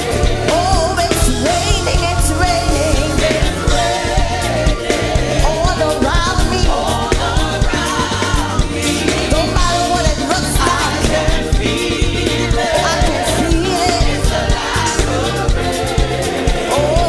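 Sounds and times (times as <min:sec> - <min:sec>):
band with bass and drums: 0:00.0 - 0:17.0
group of singers: 0:00.0 - 0:17.0.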